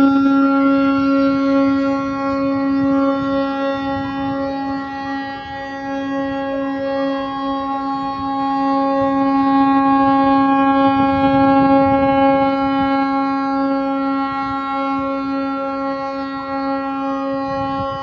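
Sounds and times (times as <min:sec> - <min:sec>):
ship horn long blast: 0:00.0 - 0:18.0.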